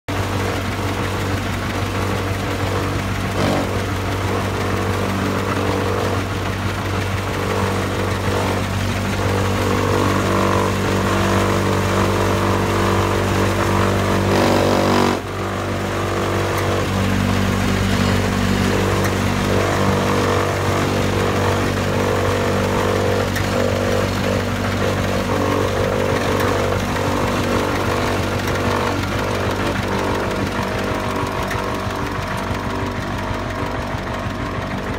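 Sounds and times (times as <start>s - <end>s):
engine drone: 0.1s - 34.9s
machine mechanical rattle: 0.3s - 34.9s.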